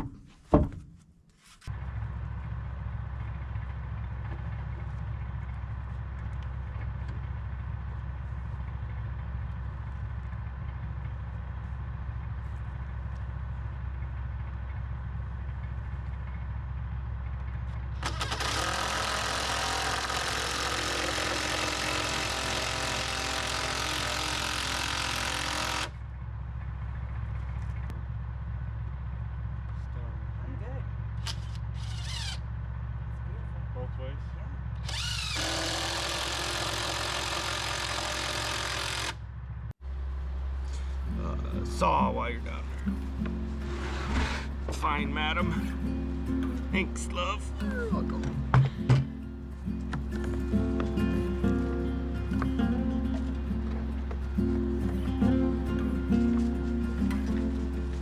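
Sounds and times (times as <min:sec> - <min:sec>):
engine running with low hum: 0:01.4 - 0:58.0.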